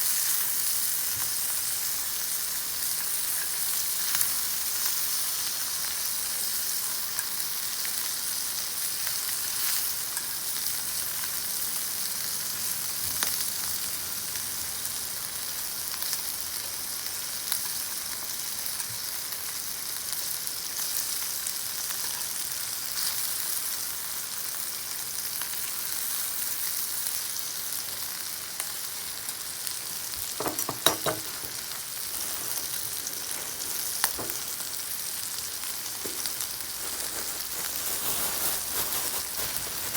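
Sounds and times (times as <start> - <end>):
beef sizzling in a pan: 0.0 - 39.9.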